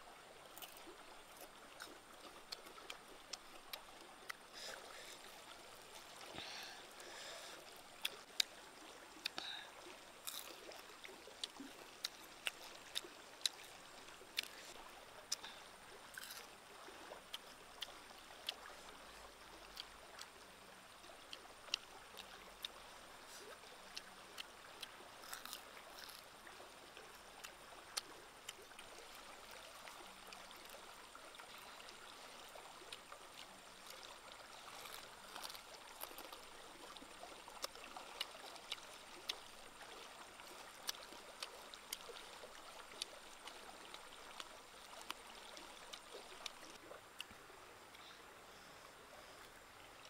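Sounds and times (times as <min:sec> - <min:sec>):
flowing stream: 0:00.0 - 0:50.0.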